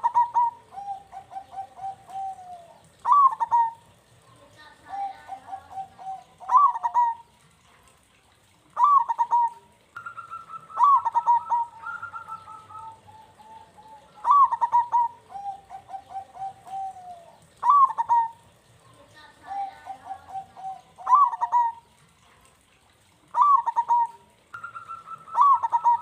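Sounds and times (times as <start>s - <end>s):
dove cooing: 0.0s - 7.4s, 8.7s - 22.4s, 23.2s - 26.0s.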